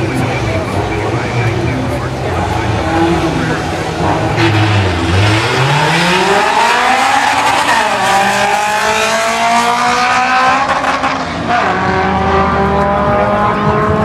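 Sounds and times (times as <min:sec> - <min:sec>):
drag car engine accelerating: 0:00.0 - 0:14.0.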